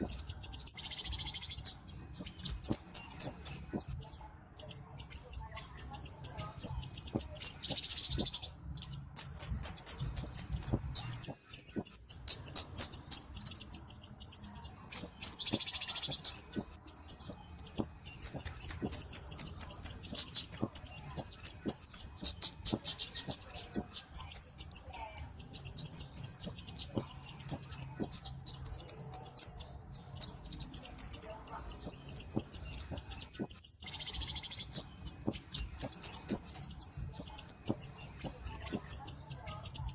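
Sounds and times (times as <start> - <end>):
bird singing high thin chirps: 0.0 - 39.9.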